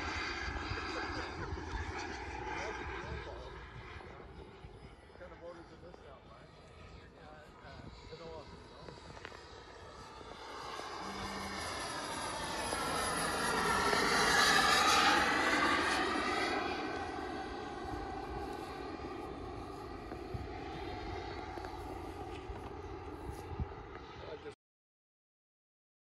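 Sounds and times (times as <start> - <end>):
model jet engine flying past: 0.0 - 24.6.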